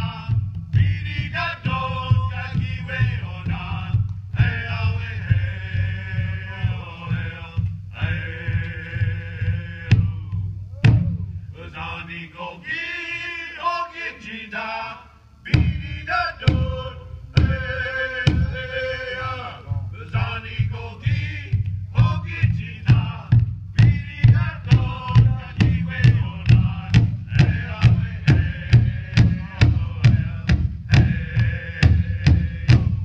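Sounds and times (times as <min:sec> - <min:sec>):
large drum beating: 0:00.0 - 0:11.6, 0:15.5 - 0:33.0
men singing a chant: 0:00.0 - 0:33.0.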